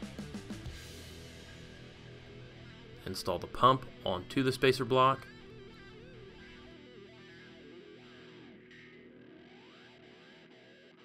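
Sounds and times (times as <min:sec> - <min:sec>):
faint guitar music: 0:00.0 - 0:11.0.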